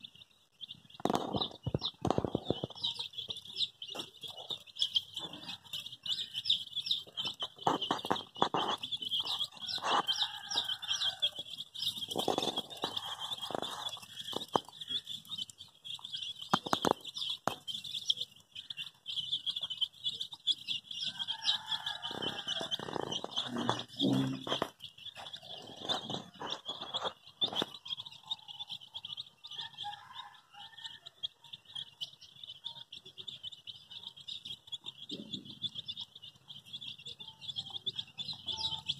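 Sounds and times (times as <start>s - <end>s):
baby chickens peeping: 0.0s - 38.9s.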